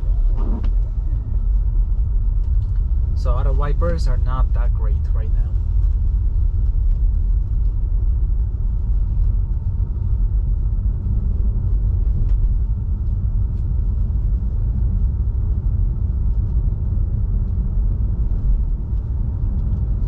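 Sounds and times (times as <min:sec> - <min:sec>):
tyre and road noise on snow: 0:00.0 - 0:20.0.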